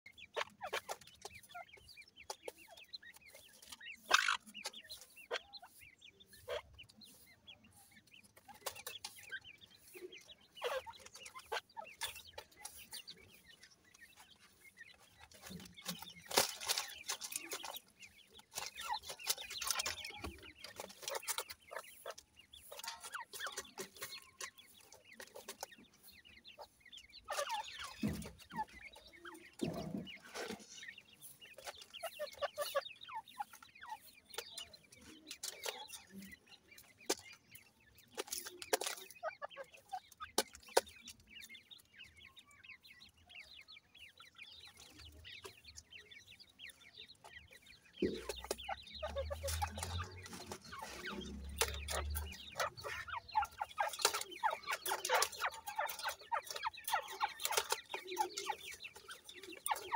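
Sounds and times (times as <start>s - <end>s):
chick calls: 0.1s - 59.9s
hen soft clucks: 0.1s - 59.9s
pecking on gravel: 0.1s - 59.9s.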